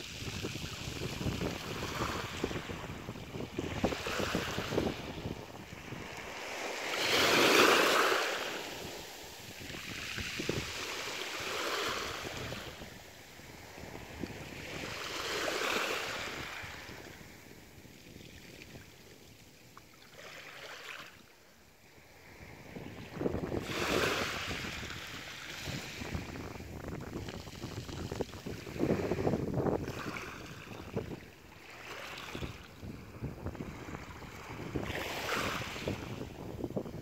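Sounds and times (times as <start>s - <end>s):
wind rumble on microphone: 0.0s - 19.1s, 21.8s - 37.0s
small waves lapping on beach: 0.0s - 37.0s.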